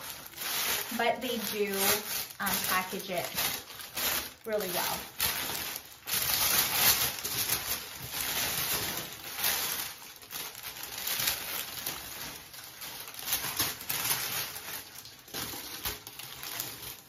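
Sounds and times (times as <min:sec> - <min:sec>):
packaging wrap crinkling: 0:00.0 - 0:17.0.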